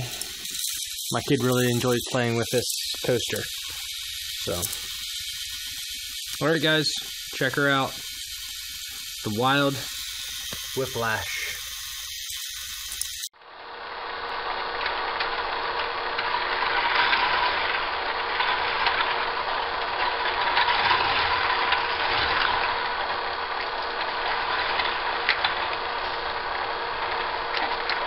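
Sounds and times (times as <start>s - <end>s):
small motor humming: 0.0s - 28.0s.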